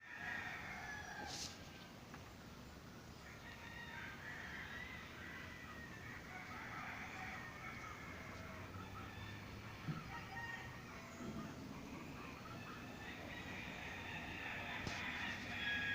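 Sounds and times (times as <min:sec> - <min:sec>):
roosters crowing: 0:00.0 - 0:02.1, 0:03.0 - 0:15.9.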